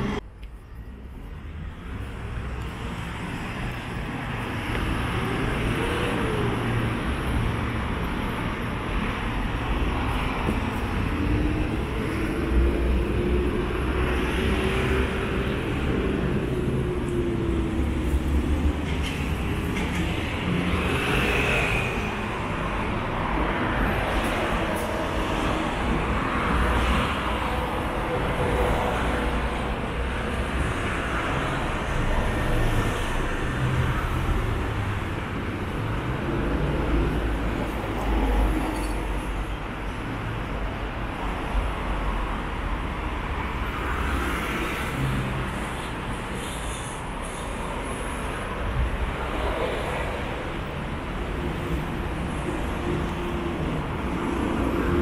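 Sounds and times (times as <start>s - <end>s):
cars and buses passing: 0.0s - 55.0s
road traffic rumble: 0.0s - 55.0s.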